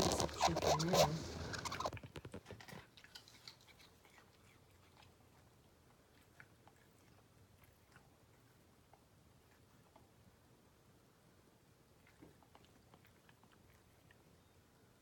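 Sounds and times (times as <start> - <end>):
cat chewing: 0.0 - 10.4, 11.8 - 14.6.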